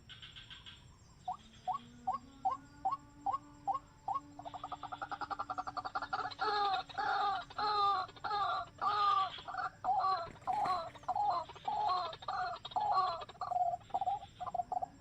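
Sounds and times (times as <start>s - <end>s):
bird chattering and calling: 0.0s - 15.0s.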